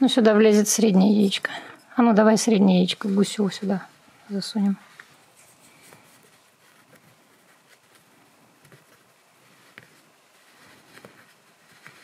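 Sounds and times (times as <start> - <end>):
faint rustling of plush toy: 0.8 - 12.0.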